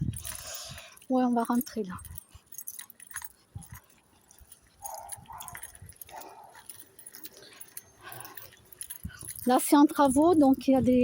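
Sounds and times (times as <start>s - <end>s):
footsteps crunching on gravel: 0.0s - 11.0s.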